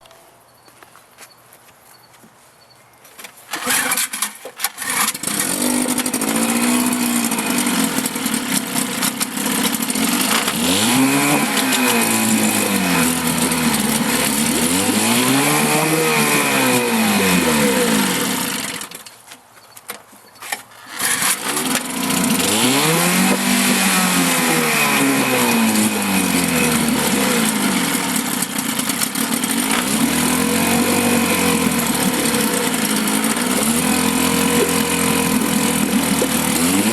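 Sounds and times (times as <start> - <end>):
outboard motor revving: 3.6 - 19.0, 20.8 - 36.9.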